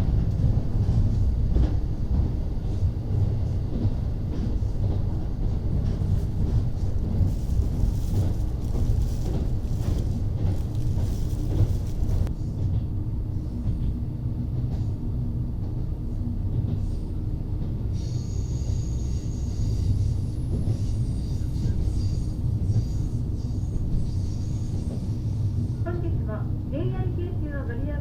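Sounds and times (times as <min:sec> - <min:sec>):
railcar engine and wheels rumbling: 0:00.0 - 0:28.0.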